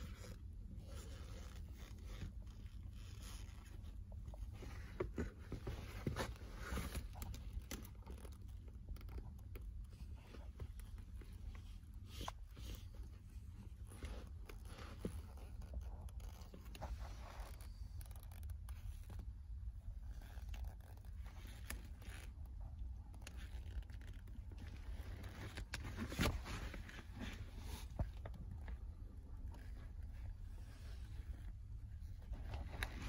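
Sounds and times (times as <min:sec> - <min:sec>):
shoes creaking on rubber mat: 0:00.0 - 0:19.3, 0:20.0 - 0:28.8
low steady rumble: 0:00.0 - 0:33.0.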